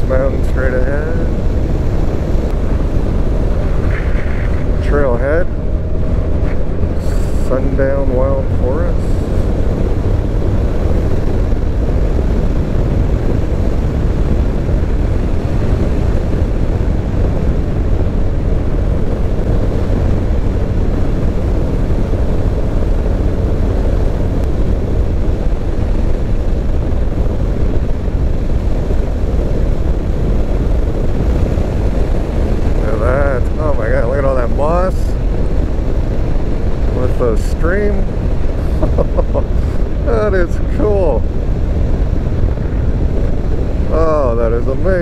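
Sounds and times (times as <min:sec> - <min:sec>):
road noise: 0:00.0 - 0:45.0
wind rushing: 0:00.0 - 0:45.0.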